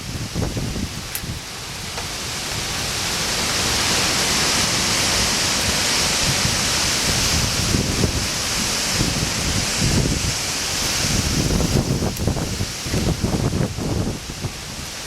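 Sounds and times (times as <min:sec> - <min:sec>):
strong wind blowing: 0:00.0 - 0:01.8, 0:02.7 - 0:15.0
low wind buffeting: 0:00.0 - 0:15.0.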